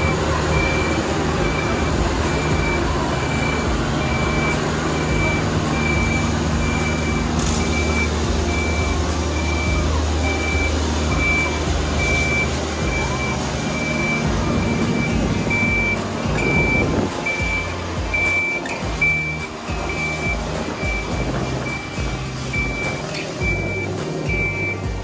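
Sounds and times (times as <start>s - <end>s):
engine running steadily: 0.0s - 25.0s
high beeping alarm: 0.0s - 25.0s.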